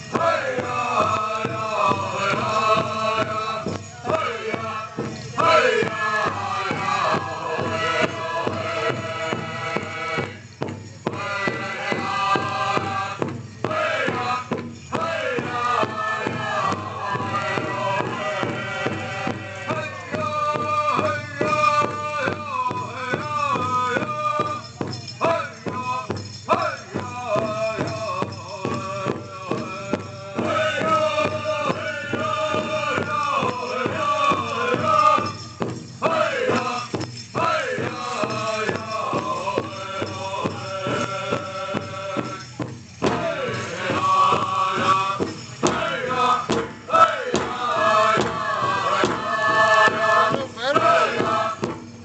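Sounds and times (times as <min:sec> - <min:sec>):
group singing chanted song: 0:00.0 - 0:10.4, 0:11.0 - 0:52.0
big drum steady beat: 0:00.0 - 0:52.0.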